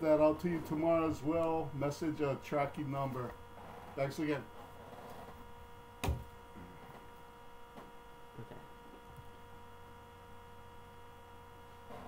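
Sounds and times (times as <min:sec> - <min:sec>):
electrical hum with pitched tones: 0:00.0 - 0:12.0.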